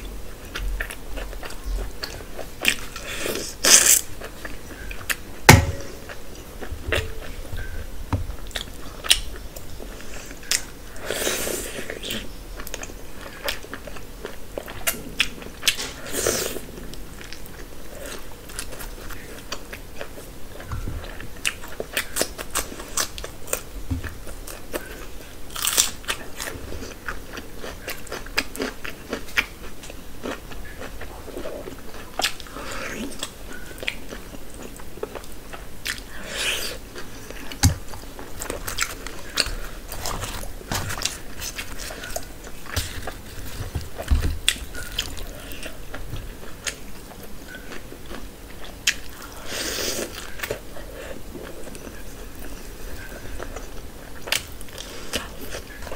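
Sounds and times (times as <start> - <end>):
person chewing and crunching food: 0.3 - 55.9.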